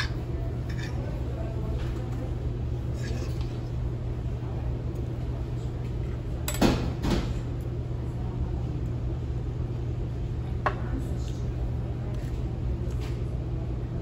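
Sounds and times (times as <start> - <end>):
dining room hum: 0.0 - 14.0.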